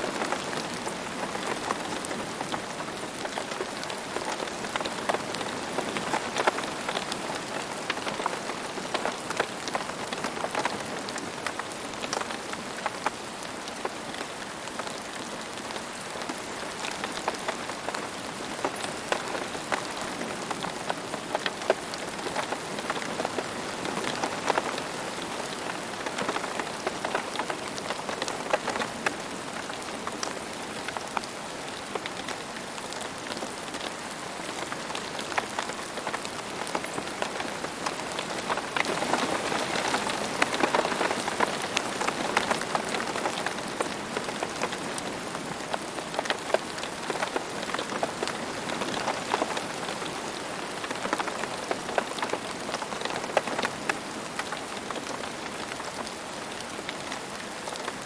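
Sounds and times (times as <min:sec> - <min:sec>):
raindrops striking close by: 0:00.0 - 0:58.0
steady rain falling: 0:00.0 - 0:58.0.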